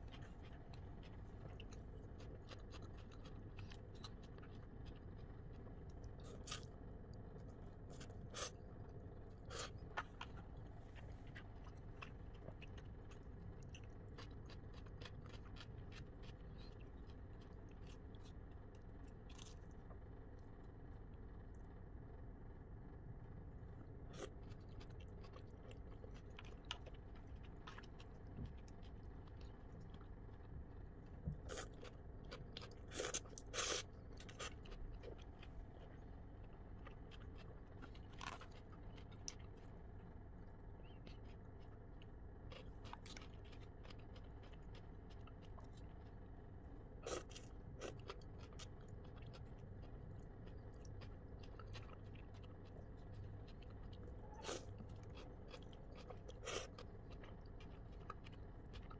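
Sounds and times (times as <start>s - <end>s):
faint chewing of noodles: 0.0s - 21.8s, 23.7s - 58.9s.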